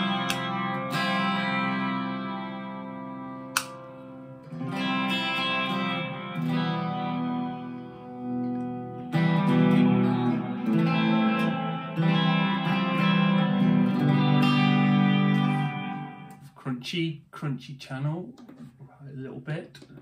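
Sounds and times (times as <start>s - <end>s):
overdriven electric guitar chords: 0.0s - 16.5s.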